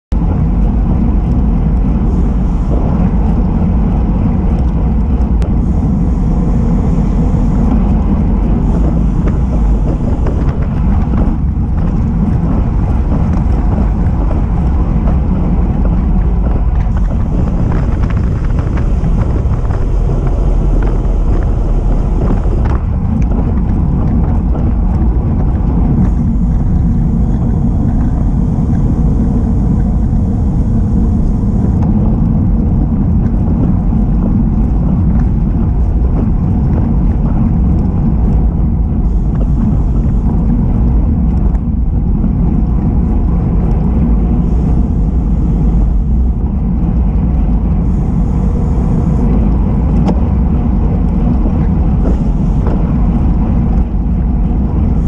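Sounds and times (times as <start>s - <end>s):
wind buffeting microphone: 0.1s - 55.0s.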